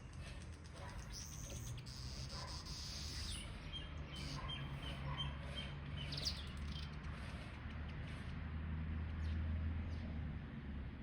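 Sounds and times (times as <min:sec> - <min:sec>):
songbirds singing: 0:00.0 - 0:10.2.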